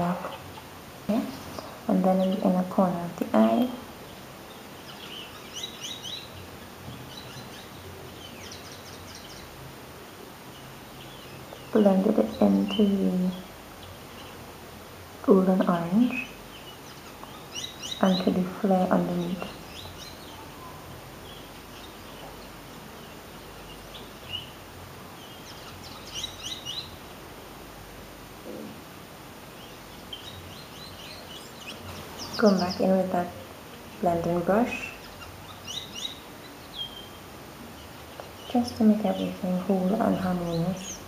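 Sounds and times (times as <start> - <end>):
low room hum and hiss: 0.0 - 41.0
small birds chirping: 0.0 - 41.0.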